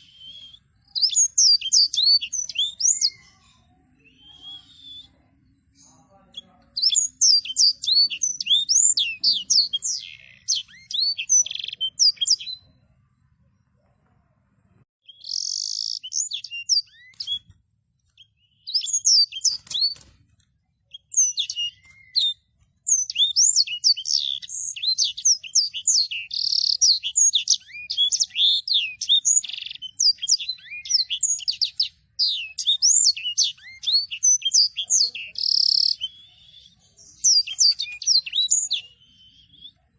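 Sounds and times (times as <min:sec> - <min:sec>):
songbird rapid chirping: 0:00.0 - 0:39.9.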